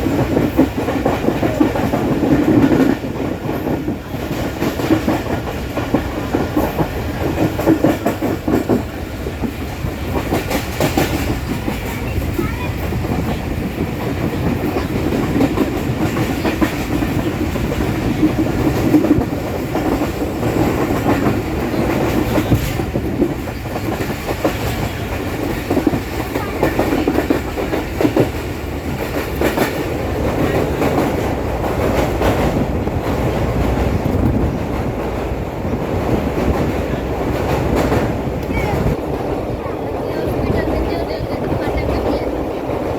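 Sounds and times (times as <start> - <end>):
passenger train rumbling: 0.0 - 42.9
wheels clattering on rails: 0.0 - 42.9.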